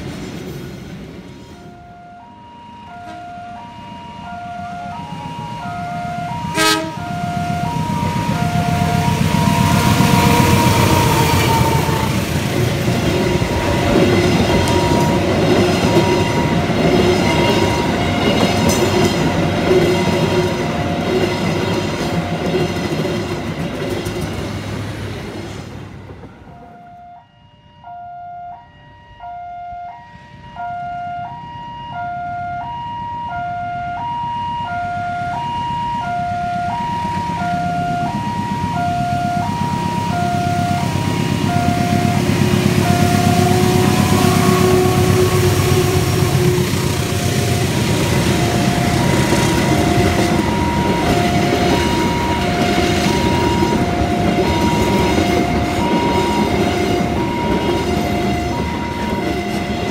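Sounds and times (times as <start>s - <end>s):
train rumbling past: 0.0s - 27.2s, 30.1s - 59.9s
level crossing alarm ringing: 1.6s - 23.8s, 26.5s - 59.9s.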